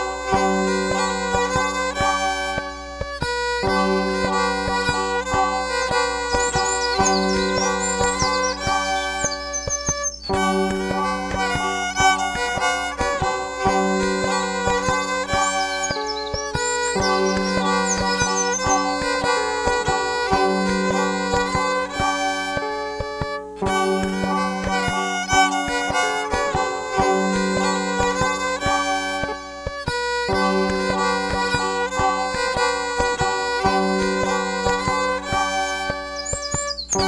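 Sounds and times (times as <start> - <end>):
instrumental background music: 0.0 - 37.0.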